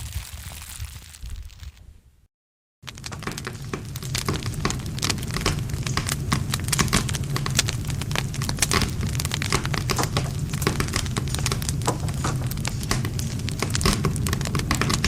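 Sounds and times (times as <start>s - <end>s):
campfire crackling: 2.8s - 15.0s.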